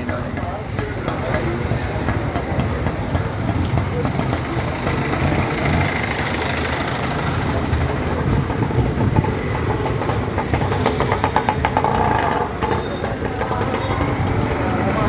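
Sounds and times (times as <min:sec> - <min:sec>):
rapid rattling and clicking: 0:00.0 - 0:15.0.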